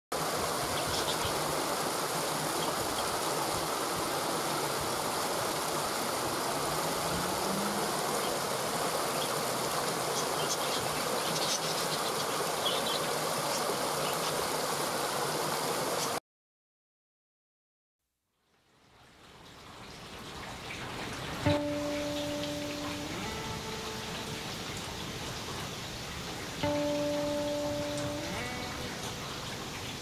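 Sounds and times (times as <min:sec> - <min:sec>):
stream pouring over stones: 0:00.2 - 0:16.2, 0:18.6 - 0:30.0.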